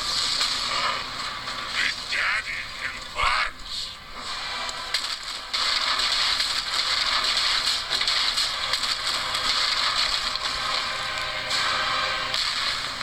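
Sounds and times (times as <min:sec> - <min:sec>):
crackling cartoon soundtrack noise: 0:00.0 - 0:13.0.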